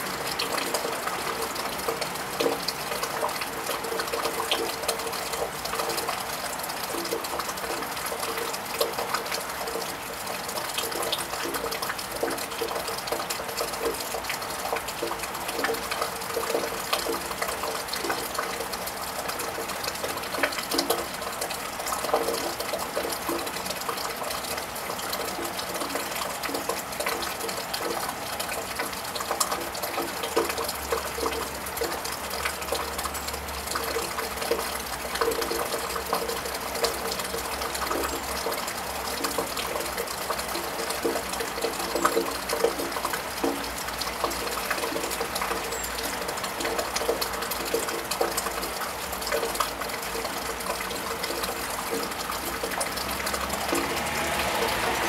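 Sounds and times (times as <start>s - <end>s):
rain on a tiled roof: 0.0s - 55.0s.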